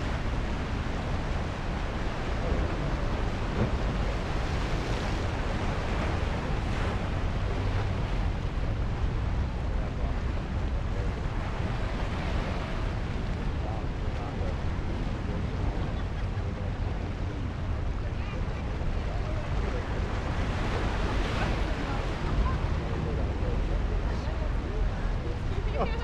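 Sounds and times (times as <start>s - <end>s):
surf breaking over rocks: 0.0s - 26.0s
wind rumbling on microphone: 0.0s - 26.0s.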